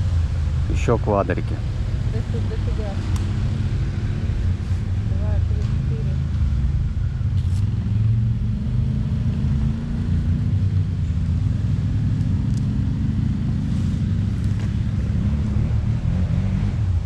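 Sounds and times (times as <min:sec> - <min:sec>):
quad bike engines rumbling: 0:00.0 - 0:17.0.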